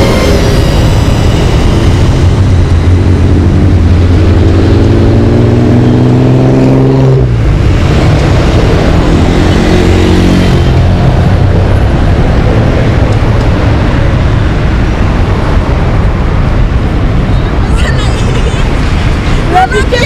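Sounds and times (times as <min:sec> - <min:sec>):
heavy vehicle engine accelerating: 0:00.0 - 0:20.0
street traffic: 0:00.0 - 0:20.0.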